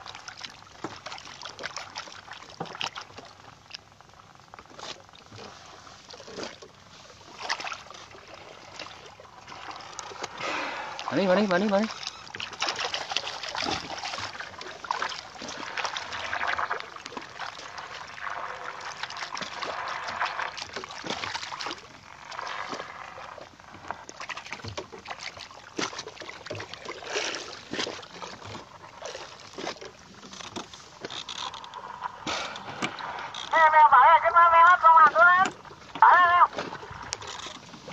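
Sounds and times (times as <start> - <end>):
water splashing against boat: 0.0 - 37.9.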